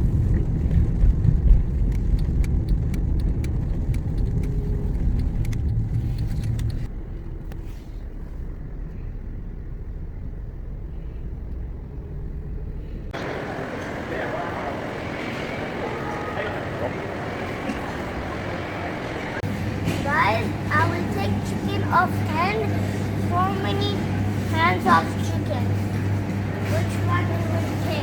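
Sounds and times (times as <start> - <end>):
car road rumble: 0.0 - 28.0.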